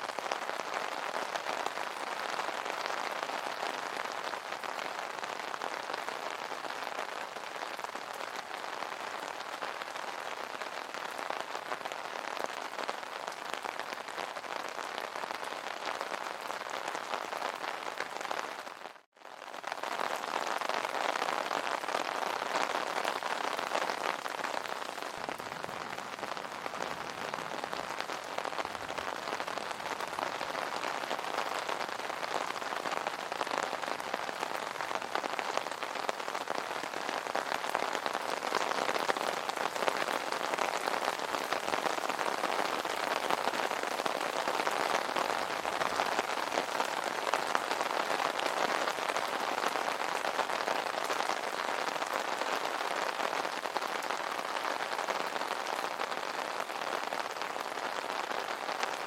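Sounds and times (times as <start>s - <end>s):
rain falling on an umbrella: 0.0s - 59.0s.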